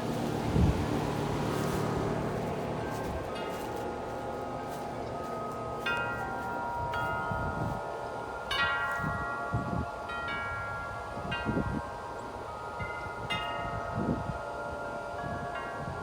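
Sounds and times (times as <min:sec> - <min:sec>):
gusty wind: 0:00.0 - 0:16.0
tubular wind chimes ringing: 0:00.0 - 0:16.0.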